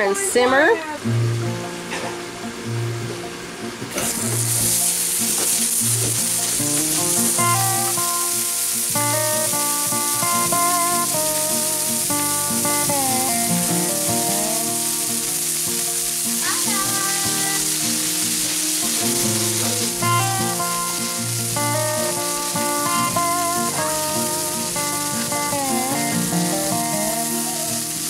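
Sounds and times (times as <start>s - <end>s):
background music with sliding notes: 0.0s - 28.0s
meat sizzling on a griddle: 3.9s - 28.0s.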